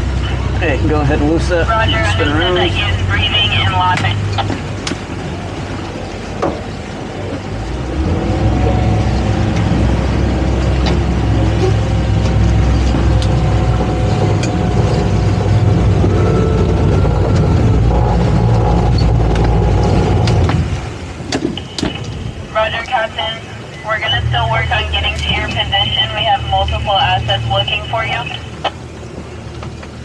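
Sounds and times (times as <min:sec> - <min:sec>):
outboard motors running: 0:00.0 - 0:30.0
water rushing in wake: 0:00.0 - 0:30.0.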